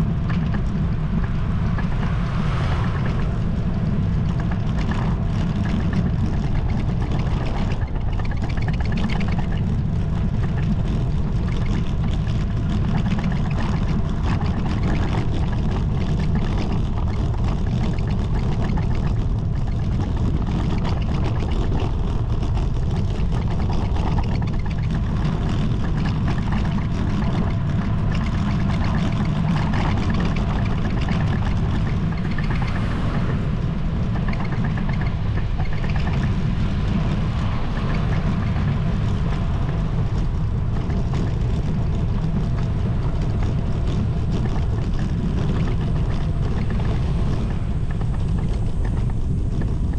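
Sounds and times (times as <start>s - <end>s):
road noise hiss: 0.0s - 6.2s, 13.4s - 49.9s
wind buffeting microphone: 0.0s - 49.9s.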